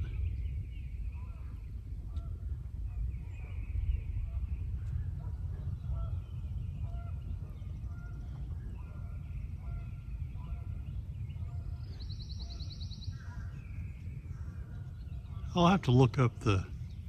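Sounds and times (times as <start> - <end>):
distant bird calls: 0.0 - 17.0
steady low rumble: 0.0 - 17.0.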